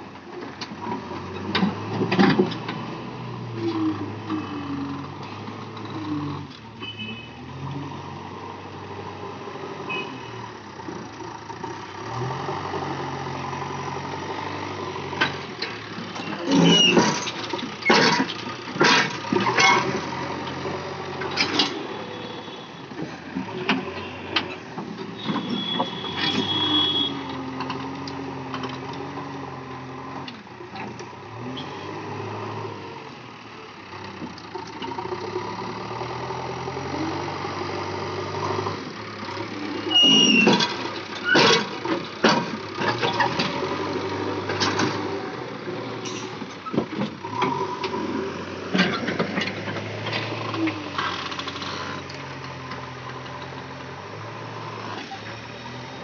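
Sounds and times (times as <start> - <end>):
backhoe diesel engine running: 7.6 - 56.0.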